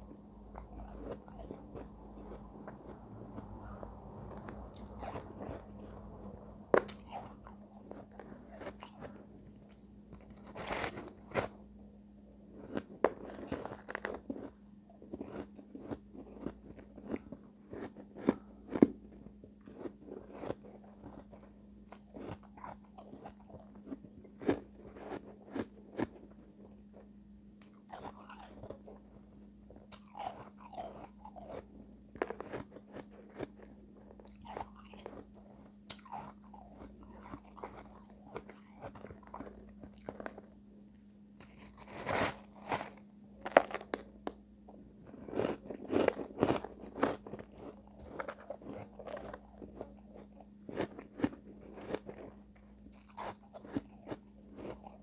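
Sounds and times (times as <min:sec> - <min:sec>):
chewing crunchy ice: 0:00.0 - 0:11.6, 0:12.5 - 0:40.6, 0:41.4 - 0:44.3, 0:45.0 - 0:55.0
faint low hum: 0:00.0 - 0:55.0.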